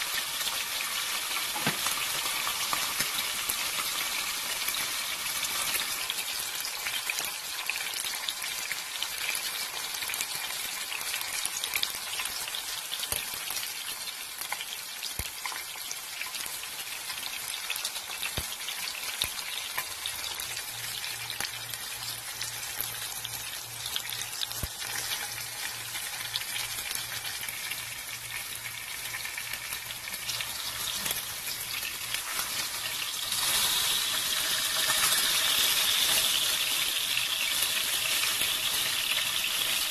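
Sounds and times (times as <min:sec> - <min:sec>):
oil sizzling in frying pan: 0:00.0 - 0:39.9.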